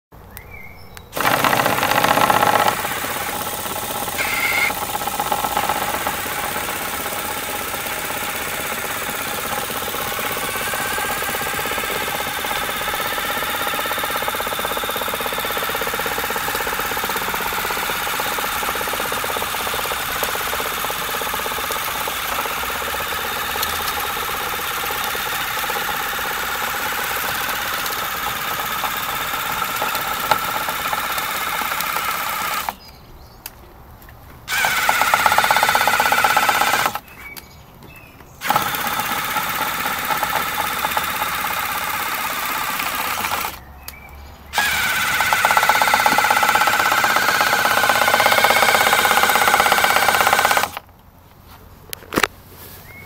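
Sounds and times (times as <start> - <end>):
robot motor whirring in metal gutter: 1.2 - 32.8, 34.5 - 37.0, 38.4 - 43.6, 44.6 - 50.8.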